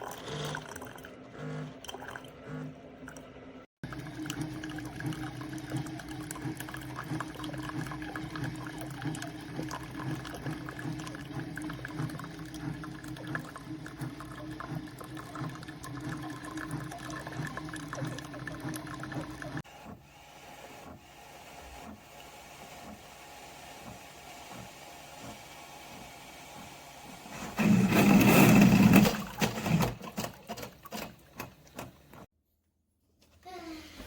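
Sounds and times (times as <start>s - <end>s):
water gurgling and sputtering: 0.0s - 19.7s, 23.8s - 32.2s
coffee maker pump humming: 0.0s - 32.3s.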